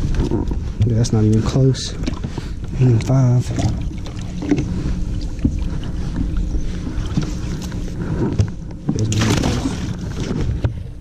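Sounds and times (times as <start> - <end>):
boat engine rumble: 0.0 - 11.0
faint hum: 0.0 - 11.0.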